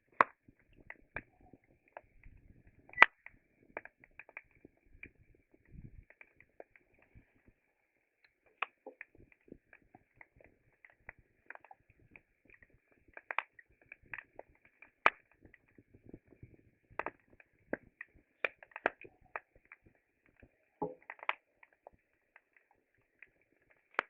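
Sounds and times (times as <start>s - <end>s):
wood fire crackling and popping: 0.1s - 7.5s, 8.2s - 24.0s.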